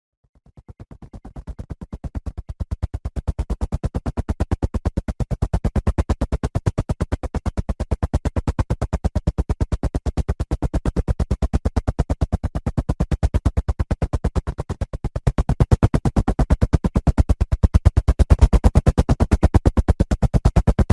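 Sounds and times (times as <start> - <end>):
helicopter rotor blades chopping: 0.6 - 20.9.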